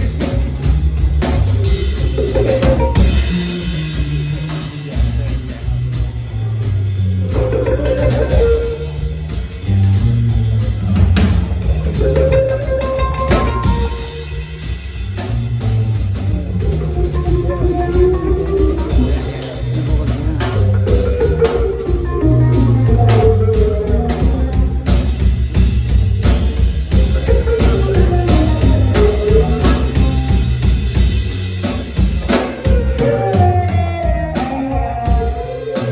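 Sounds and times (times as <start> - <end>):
live rock band playing: 0.0 - 35.9
sliding lead melody: 0.0 - 35.9.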